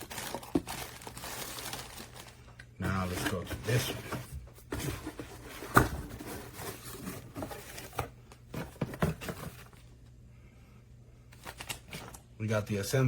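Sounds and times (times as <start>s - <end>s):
paper and plastic rustling: 0.0s - 9.9s, 11.3s - 12.2s.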